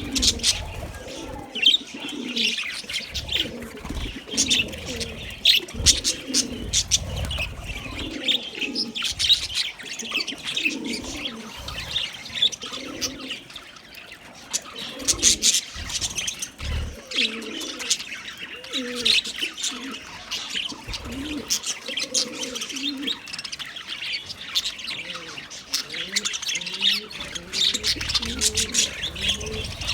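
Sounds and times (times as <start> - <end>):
budgerigars chirping: 0.0 - 29.9
low cooing calls: 0.0 - 29.9.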